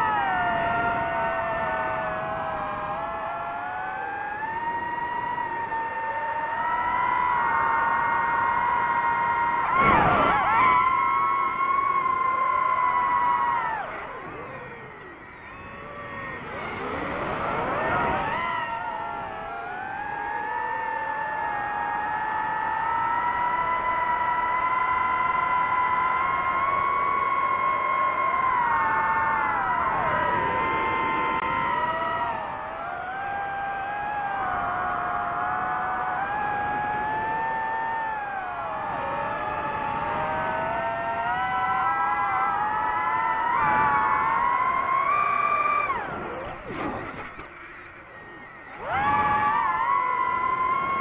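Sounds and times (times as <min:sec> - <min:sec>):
drone propellers whining: 0:00.0 - 0:51.0.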